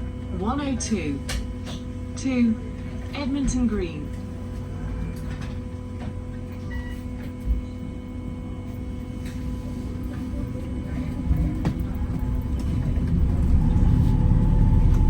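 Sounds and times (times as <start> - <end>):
bus interior rumble and hum: 0.0 - 15.0.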